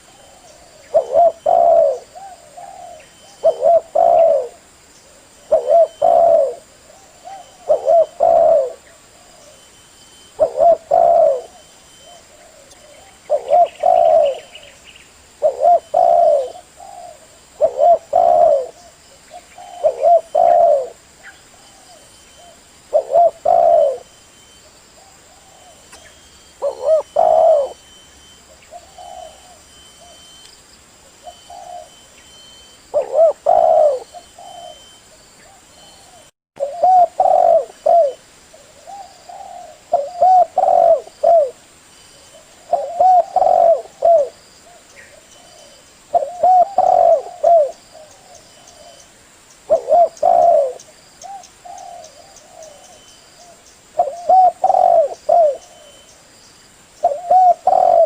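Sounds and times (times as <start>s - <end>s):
dove cooing: 0.0s - 14.8s, 15.4s - 30.4s, 31.1s - 41.6s, 42.2s - 49.0s, 49.7s - 56.1s, 57.0s - 58.0s.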